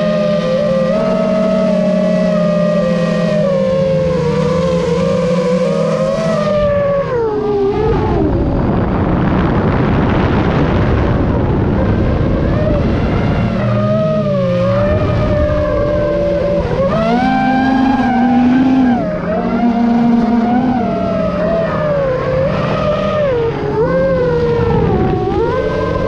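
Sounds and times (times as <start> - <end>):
model aircraft motor whine: 0.0 - 10.1, 11.0 - 26.0
rushing air: 3.8 - 26.0.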